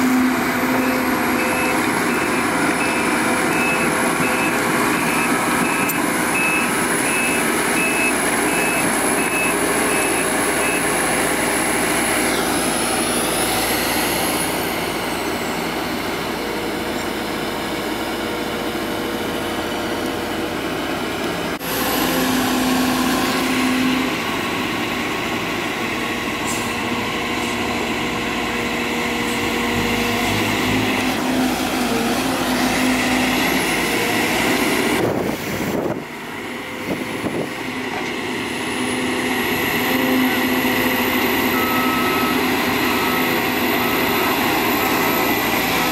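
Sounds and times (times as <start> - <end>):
dump trucks running: 0.0 - 45.9
excavator engine and hydraulics: 0.0 - 45.9.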